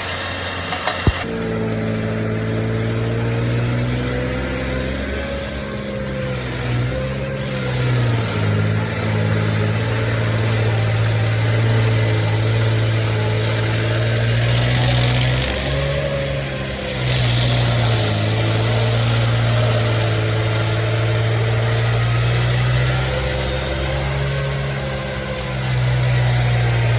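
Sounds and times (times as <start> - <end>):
stump grinder engine running: 0.0 - 26.9.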